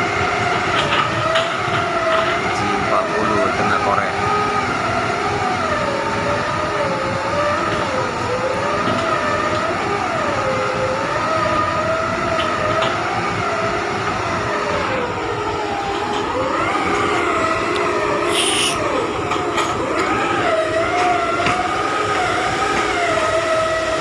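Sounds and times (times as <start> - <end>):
diesel construction machinery running: 0.0 - 24.0.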